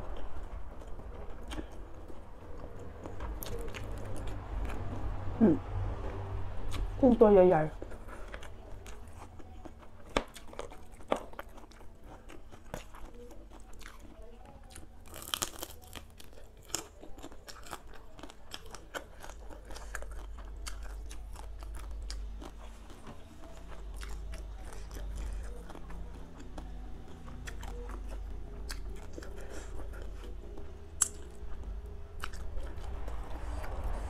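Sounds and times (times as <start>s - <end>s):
crunchy chewing: 0.0s - 6.9s, 7.7s - 34.0s.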